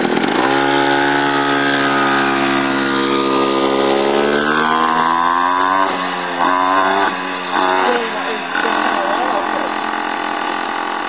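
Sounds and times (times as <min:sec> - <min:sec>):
small motorcycle engine revving: 0:00.0 - 0:11.0.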